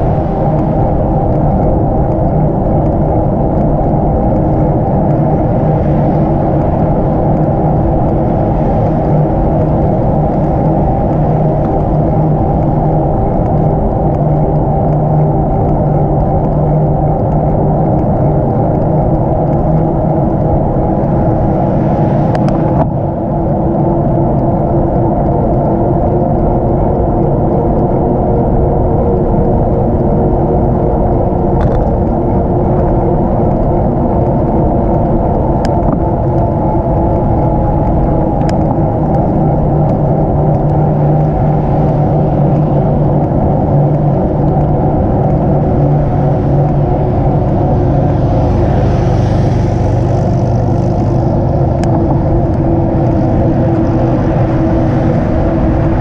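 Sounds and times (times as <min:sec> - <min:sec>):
faint traffic hum: 0:00.0 - 0:56.0
wind and road noise: 0:00.0 - 0:56.0.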